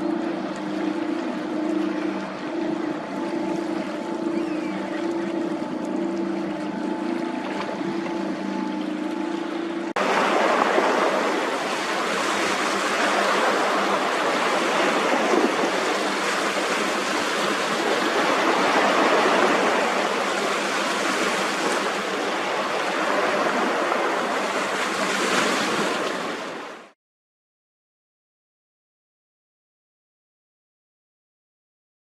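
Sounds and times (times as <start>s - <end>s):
water rushing from boat wash: 0.0s - 27.0s.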